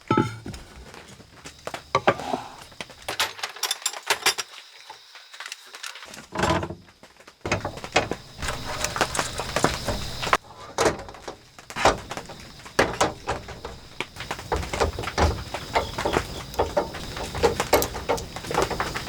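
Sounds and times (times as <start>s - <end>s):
objects knocking and clicking: 0.0s - 4.7s, 5.3s - 19.0s.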